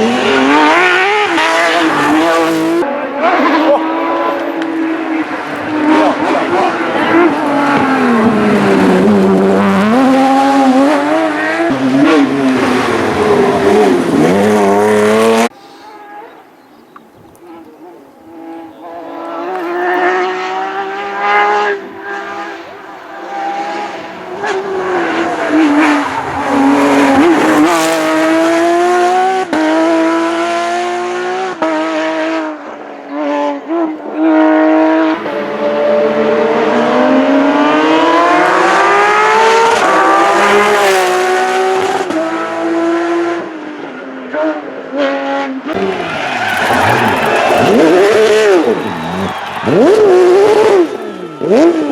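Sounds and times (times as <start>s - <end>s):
rally car engine revving through gears: 0.0s - 15.5s, 18.3s - 51.9s.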